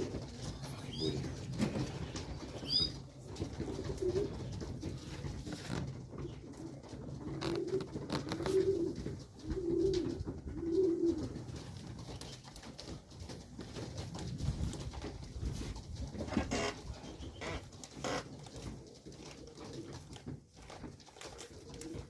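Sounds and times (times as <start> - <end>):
pigeons cooing: 0.0 - 12.5, 15.5 - 22.0.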